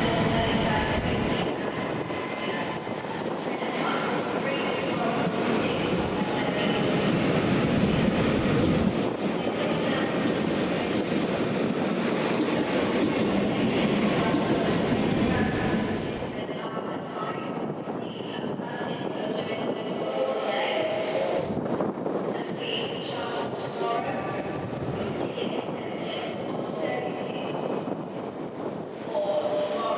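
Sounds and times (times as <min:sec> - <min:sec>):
train running on rails: 0:00.0 - 0:29.9.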